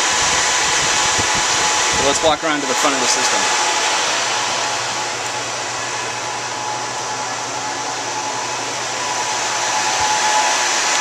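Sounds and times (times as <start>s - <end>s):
server cooling fans rushing: 0.0s - 11.0s
thin fan whine: 0.0s - 11.0s.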